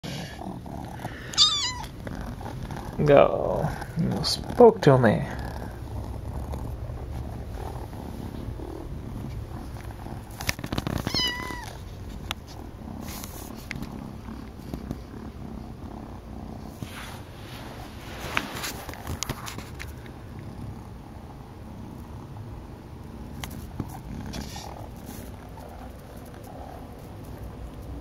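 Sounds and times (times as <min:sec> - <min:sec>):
cat purring: 0:00.1 - 0:28.0.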